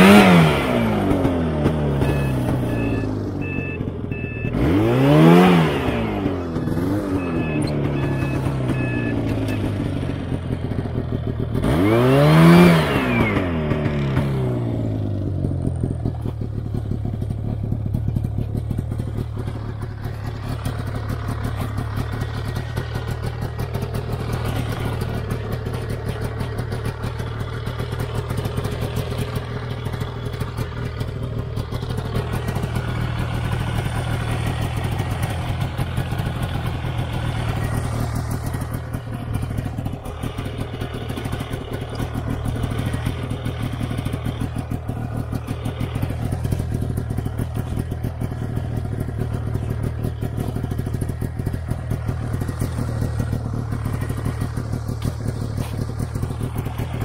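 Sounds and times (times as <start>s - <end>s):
snowmobile engine idling: 0.0s - 57.0s.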